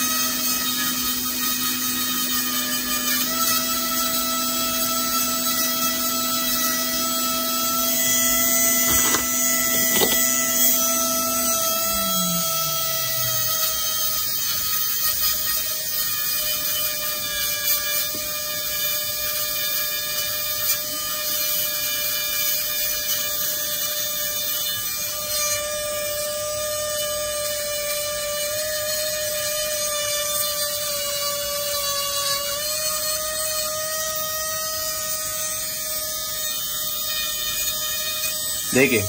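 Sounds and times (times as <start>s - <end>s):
electric micro drill whining: 0.0s - 39.0s.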